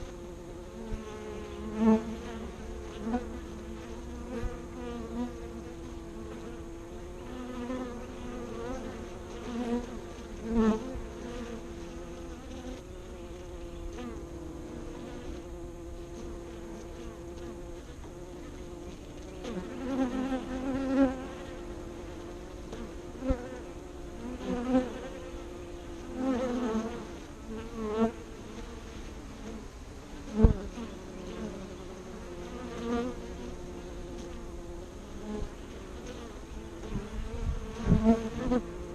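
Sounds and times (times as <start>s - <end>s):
hum of many bees: 0.0s - 38.9s
single bees buzzing past: 0.0s - 38.9s.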